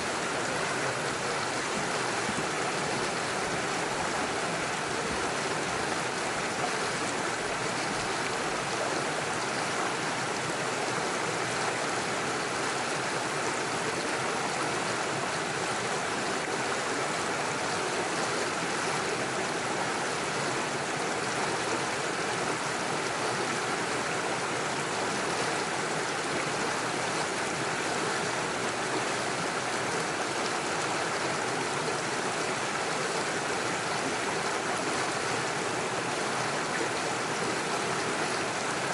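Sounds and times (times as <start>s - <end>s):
stream running over stones: 0.0s - 38.9s.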